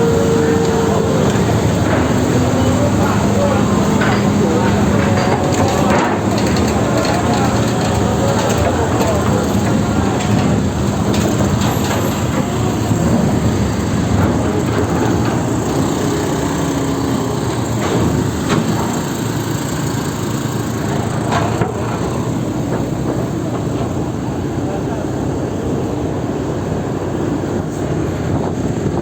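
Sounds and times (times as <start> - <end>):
vehicle engines rumbling: 0.0 - 29.0.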